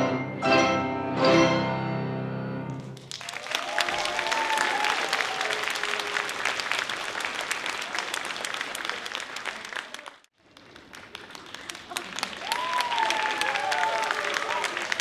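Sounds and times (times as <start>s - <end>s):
audience applauding: 2.8s - 15.0s.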